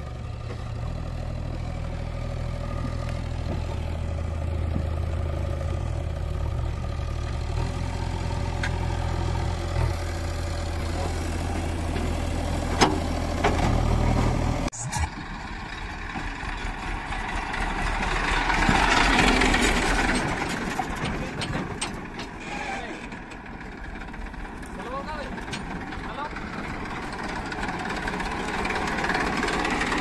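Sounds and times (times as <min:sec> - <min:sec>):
diesel engine idling: 0:00.0 - 0:30.0
tractor diesel engine running: 0:00.0 - 0:30.0.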